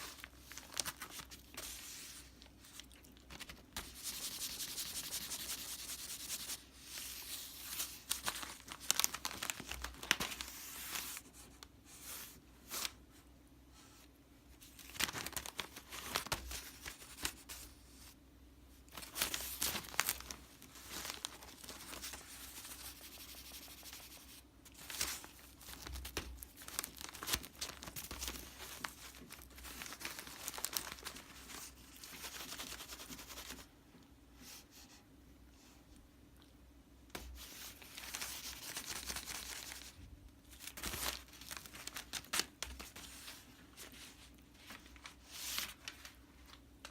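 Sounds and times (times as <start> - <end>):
crinkly toy rustling: 0.0 - 5.1, 6.3 - 13.0, 14.6 - 18.2, 18.9 - 33.7, 37.2 - 46.9.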